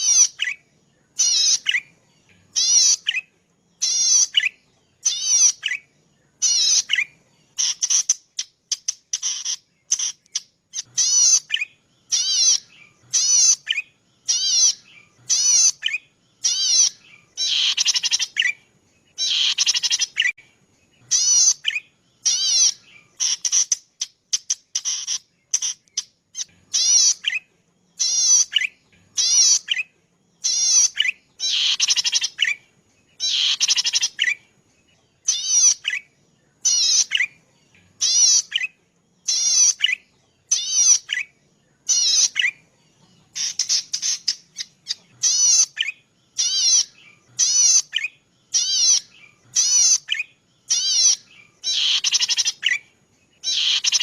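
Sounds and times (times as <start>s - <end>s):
harsh bird phrases: 0.0s - 32.6s, 33.2s - 34.5s, 35.2s - 37.4s, 38.0s - 54.0s
bird singing buzzy trill: 0.0s - 54.0s.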